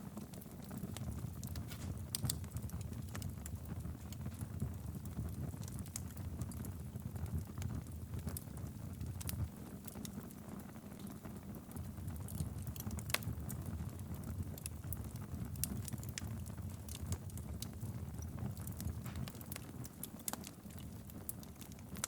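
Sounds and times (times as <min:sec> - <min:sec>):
fire crackles and pops: 0:00.0 - 0:22.0
fireplace flames rumbling: 0:00.0 - 0:22.0.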